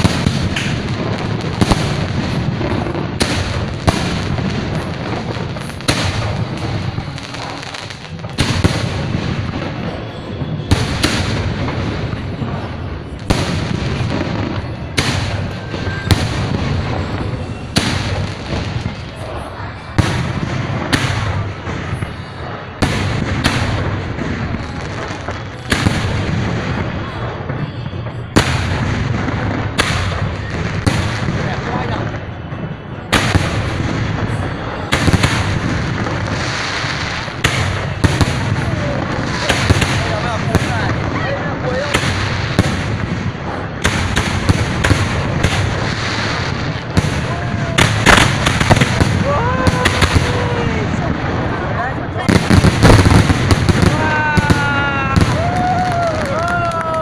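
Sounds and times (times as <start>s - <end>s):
firework shells bursting: 0.0s - 19.2s, 19.9s - 57.0s
fireworks rumble and crackle: 0.0s - 57.0s.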